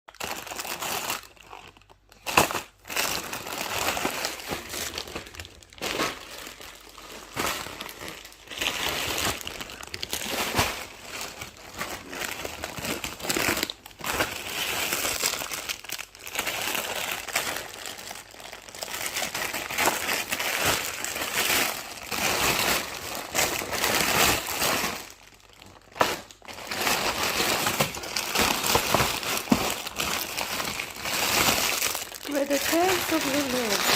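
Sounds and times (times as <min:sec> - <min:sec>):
wrapper crinkling and rustling: 0:00.1 - 0:33.9.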